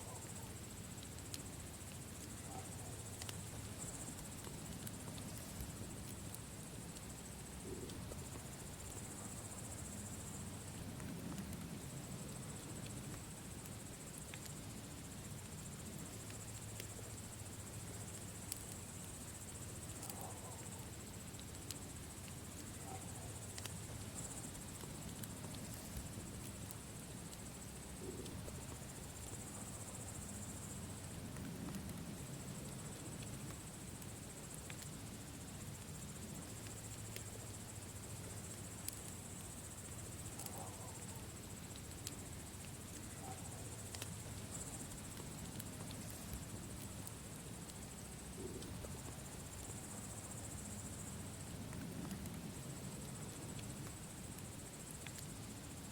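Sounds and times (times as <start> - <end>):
insects chirring: 0.0 - 55.9
campfire crackling: 0.1 - 55.9.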